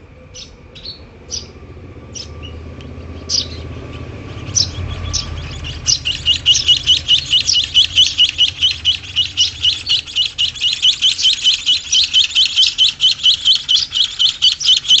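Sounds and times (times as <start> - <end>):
birds chirping rapidly: 0.0 - 15.0
higher bird chirps: 0.0 - 15.0.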